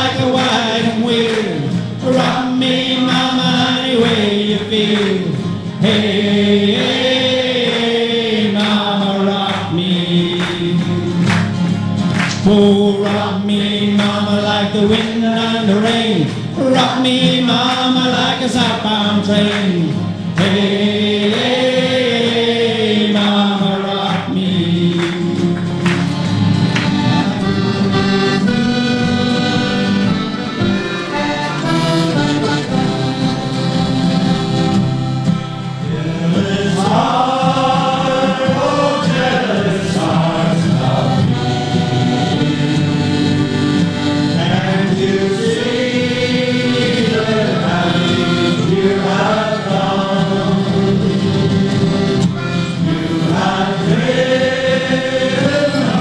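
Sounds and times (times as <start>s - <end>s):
male choir singing: 0.0s - 11.6s, 12.3s - 26.0s, 27.0s - 30.3s, 35.6s - 56.0s
folk band playing: 0.0s - 56.0s.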